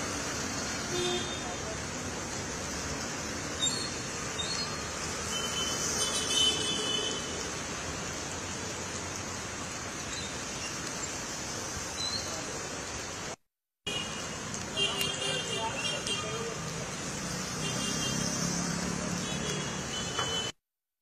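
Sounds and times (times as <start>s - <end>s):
heavy rain: 0.0s - 20.6s
wet road noise: 0.0s - 20.6s.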